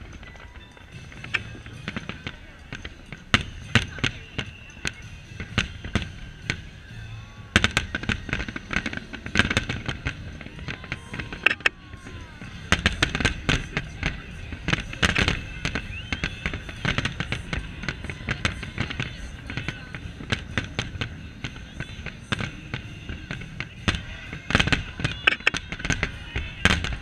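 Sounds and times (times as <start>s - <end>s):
fireworks bangs and cracks: 0.0s - 27.0s.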